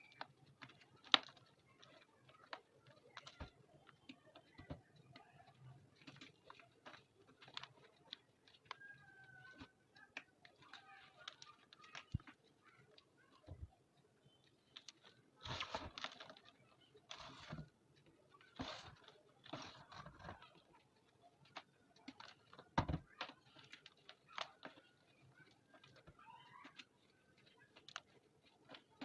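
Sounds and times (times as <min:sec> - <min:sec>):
small cracks and ticks: 0:00.0 - 0:29.0.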